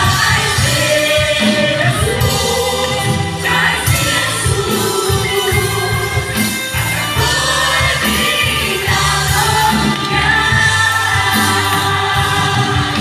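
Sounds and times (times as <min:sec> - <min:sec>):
band with steady bass line: 0:00.0 - 0:13.0
group singing gospel in harmony: 0:00.0 - 0:13.0.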